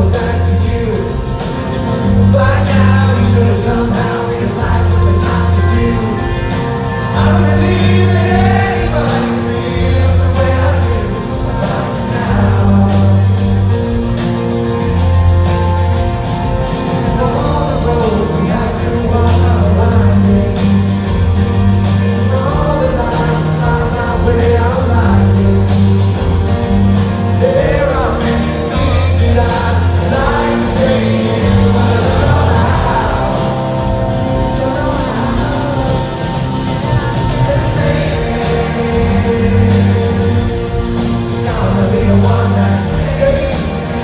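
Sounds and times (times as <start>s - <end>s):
person singing: 0.0s - 15.4s, 16.0s - 44.0s
bass line: 0.0s - 44.0s
strummed guitar: 0.0s - 44.0s.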